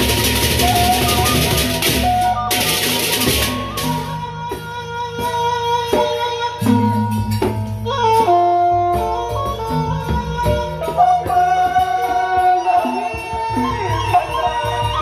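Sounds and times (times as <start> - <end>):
drum strokes: 0.0 - 14.2
cymbals clashing: 0.0 - 15.0.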